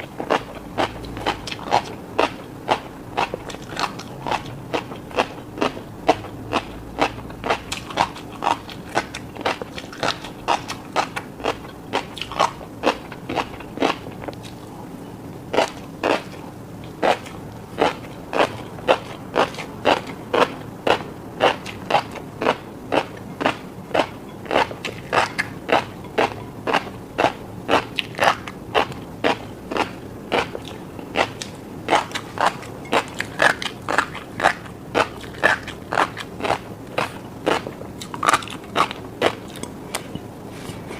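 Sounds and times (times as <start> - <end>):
chewing crunchy fish roe: 0.0 - 40.9.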